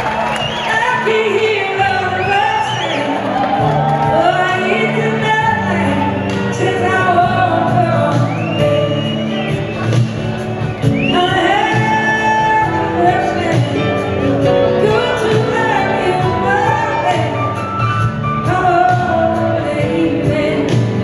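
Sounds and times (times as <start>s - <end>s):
live band music: 0.0s - 21.0s
woman singing: 0.5s - 9.6s, 10.8s - 21.0s.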